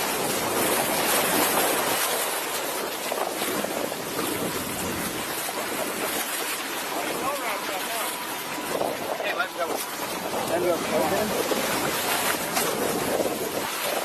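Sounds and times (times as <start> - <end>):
water splashing along boat hull: 0.0 - 14.0.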